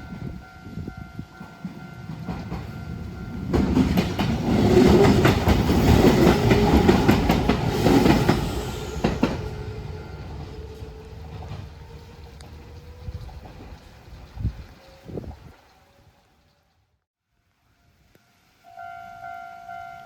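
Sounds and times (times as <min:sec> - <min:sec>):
electric train rumbling past: 0:00.0 - 0:16.7.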